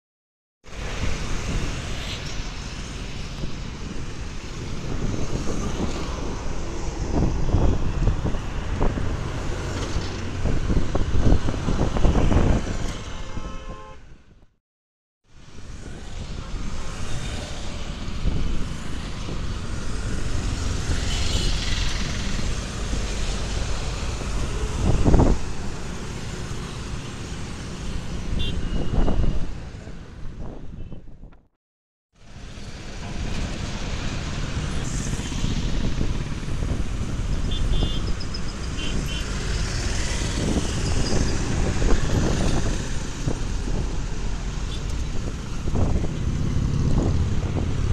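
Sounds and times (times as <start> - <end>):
busy road traffic: 0.6 - 14.6, 15.2 - 31.6, 32.2 - 47.9.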